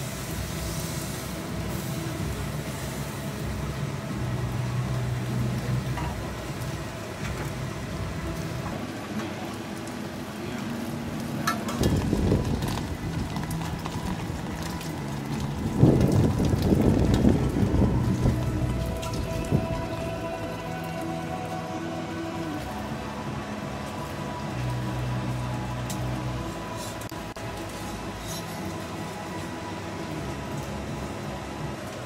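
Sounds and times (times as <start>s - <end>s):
batter sizzling on griddle: 0.0s - 32.0s
low hum: 0.3s - 32.0s.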